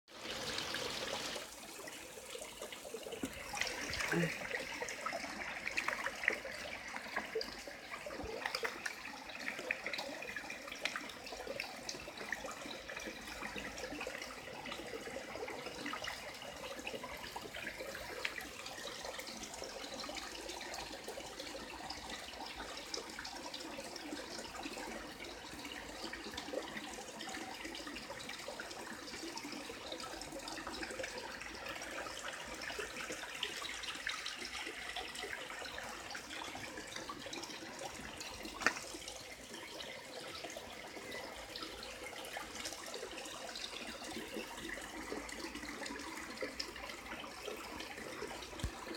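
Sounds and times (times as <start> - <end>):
small waterfall splashing into pond: 0.1 - 48.9.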